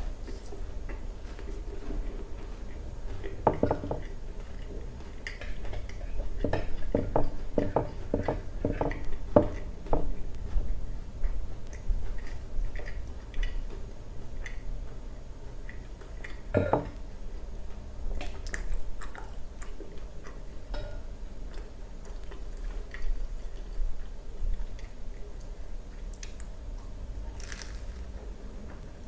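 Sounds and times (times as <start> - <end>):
crunching and chewing food: 0.0 - 29.0.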